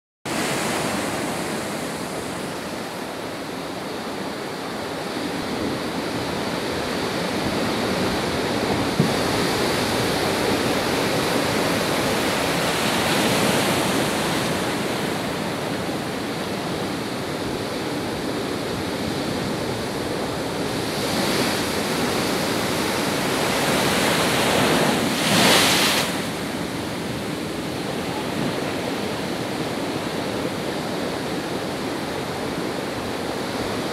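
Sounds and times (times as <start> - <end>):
waves crashing against pier: 0.3 - 33.9.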